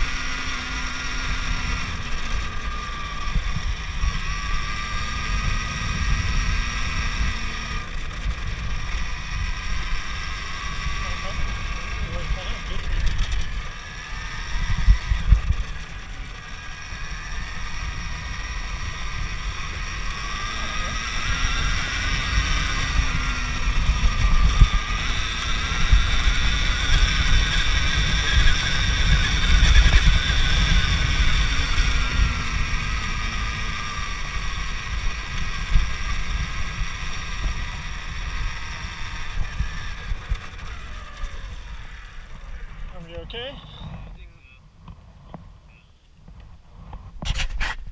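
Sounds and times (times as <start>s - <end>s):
electric motor whine: 0.0s - 44.3s
wind rumble on microphone: 1.0s - 47.9s.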